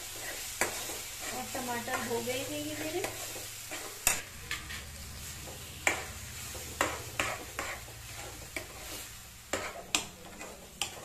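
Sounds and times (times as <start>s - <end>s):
masala sizzling: 0.0s - 11.0s
spoon scraping metal pan: 0.0s - 11.0s.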